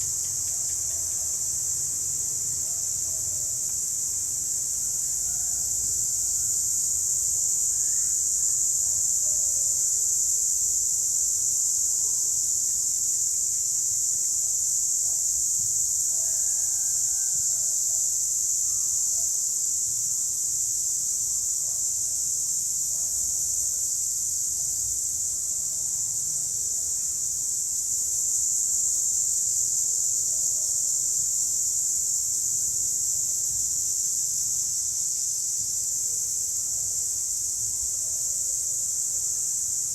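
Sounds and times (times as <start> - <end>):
cicadas buzzing: 0.0 - 11.8, 12.5 - 39.9.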